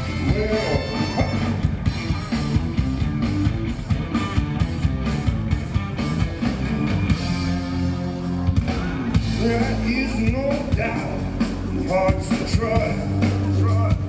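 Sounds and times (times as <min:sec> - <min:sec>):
drum beat: 0:00.0 - 0:06.4, 0:08.5 - 0:14.0
bass guitar: 0:00.0 - 0:14.0.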